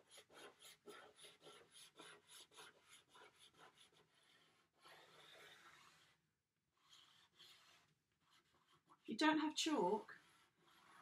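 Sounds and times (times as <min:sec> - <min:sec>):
chalk scratching on paper: 0:00.0 - 0:06.2, 0:06.8 - 0:09.0, 0:09.8 - 0:11.0.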